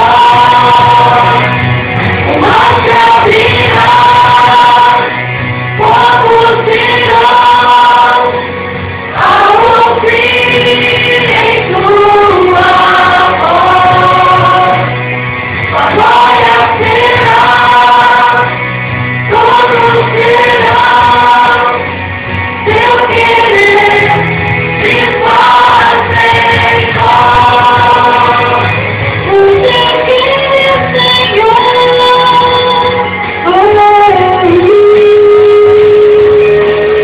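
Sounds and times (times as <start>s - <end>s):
choir singing: 0.0s - 37.0s.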